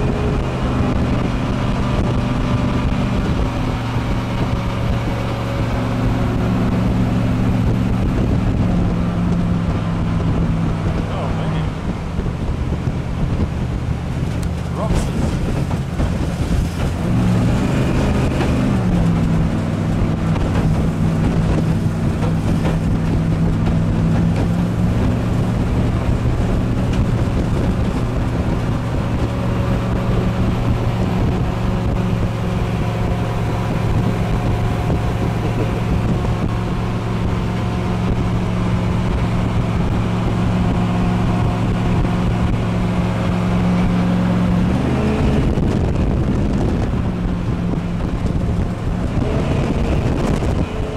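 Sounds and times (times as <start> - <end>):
jet boat engine running: 0.0 - 50.9
water rushing: 0.0 - 50.9
wind on microphone: 0.0 - 50.9.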